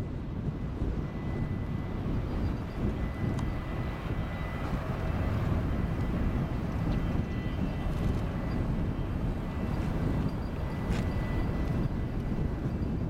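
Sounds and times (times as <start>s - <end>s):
faint high whine: 0.0s - 13.0s
jet engines low rumble: 0.0s - 13.0s.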